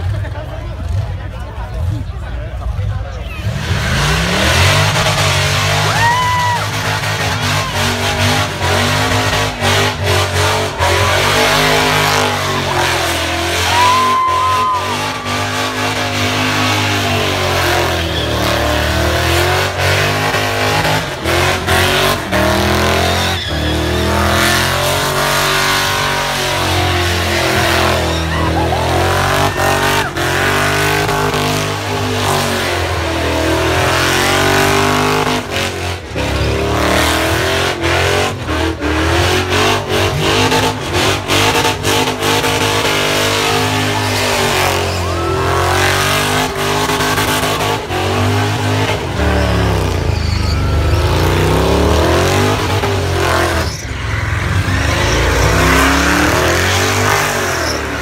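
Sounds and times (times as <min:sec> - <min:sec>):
car engine revving hard: 0:03.4 - 0:58.0
tyres squealing: 0:04.9 - 0:32.8, 0:37.5 - 0:58.0.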